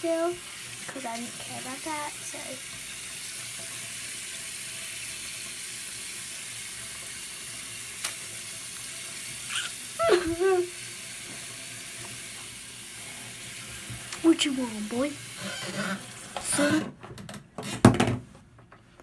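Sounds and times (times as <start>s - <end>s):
tap water running: 0.0s - 18.0s.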